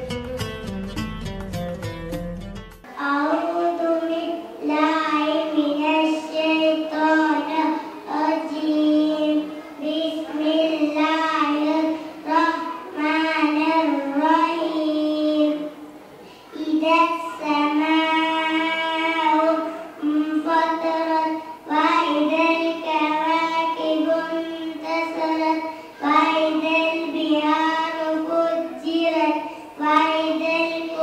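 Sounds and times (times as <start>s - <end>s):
girl chanting into a microphone: 2.9s - 31.0s.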